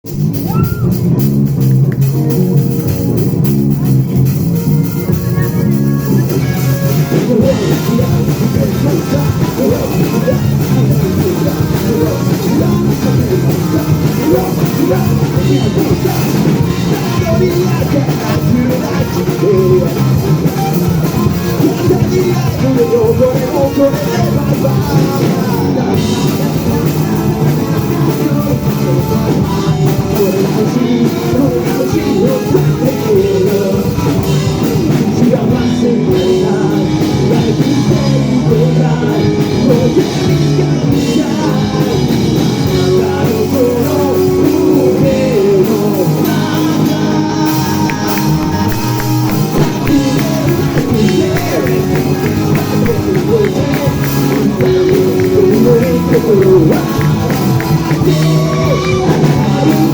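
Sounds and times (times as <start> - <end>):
drum kit: 0.0 - 59.9
guitar: 0.0 - 59.9.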